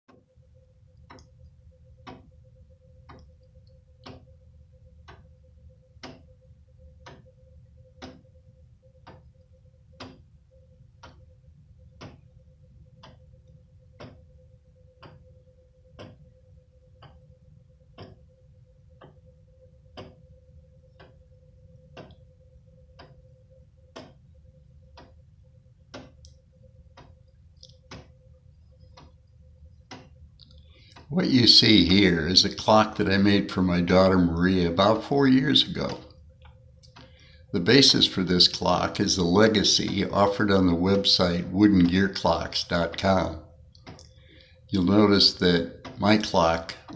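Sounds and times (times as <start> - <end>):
faint steady hum: 0.1 - 46.9
pendulum clock ticking: 0.1 - 46.9.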